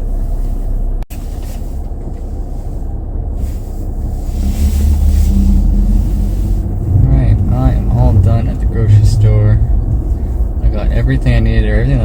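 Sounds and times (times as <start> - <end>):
car engine low rumble: 0.0 - 12.0
road noise: 0.0 - 12.0.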